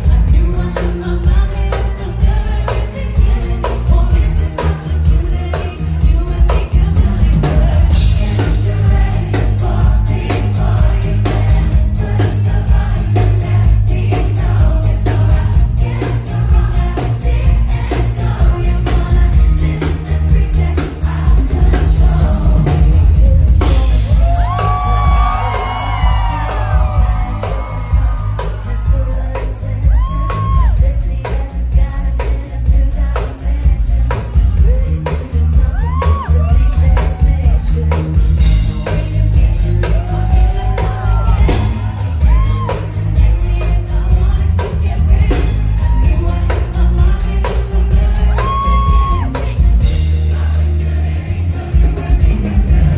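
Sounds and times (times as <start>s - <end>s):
band with heavy bass: 0.0s - 52.9s
women singing pop music: 0.0s - 52.9s.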